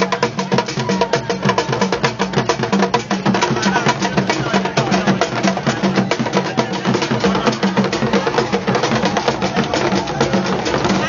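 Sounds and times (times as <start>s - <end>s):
crowd voices: 0.0s - 11.0s
drums beaten with sticks: 0.0s - 11.0s.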